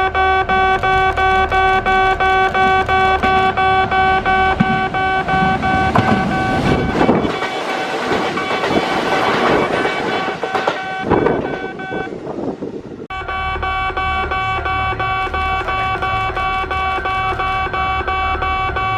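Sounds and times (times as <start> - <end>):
train passing on rails: 0.0 - 18.9.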